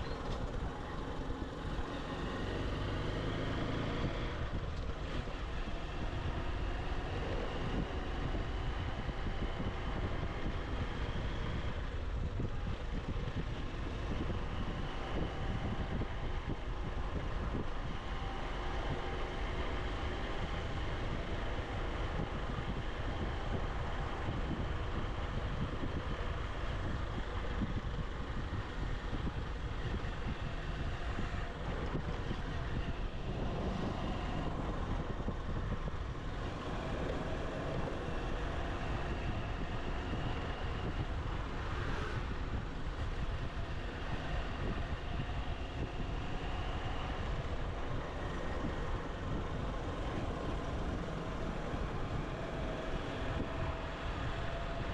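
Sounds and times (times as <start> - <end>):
motorcycle engine running: 0.0 - 54.9
wind noise: 0.0 - 54.9.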